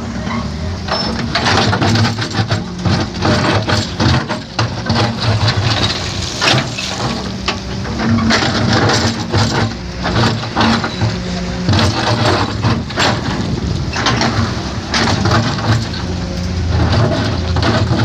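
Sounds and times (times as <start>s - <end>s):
diesel construction machine: 0.0s - 18.0s.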